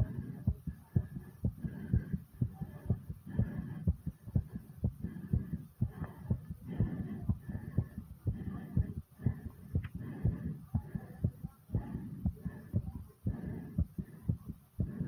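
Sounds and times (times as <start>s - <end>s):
heart beating fast: 0.0s - 15.0s.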